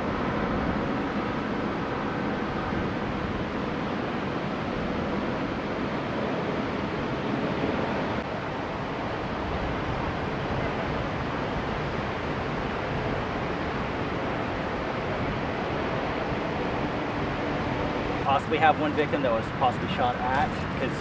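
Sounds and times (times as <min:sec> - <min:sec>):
ocean surf rushing: 0:00.0 - 0:21.0.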